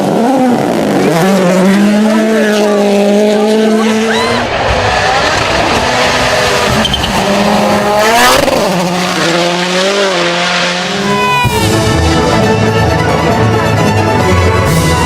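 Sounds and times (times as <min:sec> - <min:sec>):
rally car engine revving: 0:00.0 - 0:15.0
tyre and road noise: 0:00.0 - 0:15.0.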